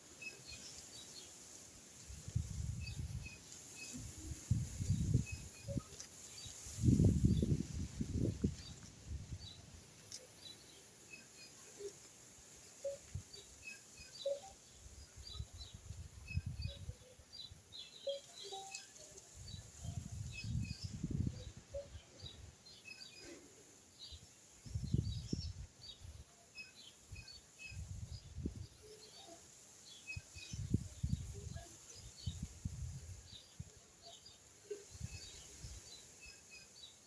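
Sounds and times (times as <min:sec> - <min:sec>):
small birds chirping: 0:00.1 - 0:37.0.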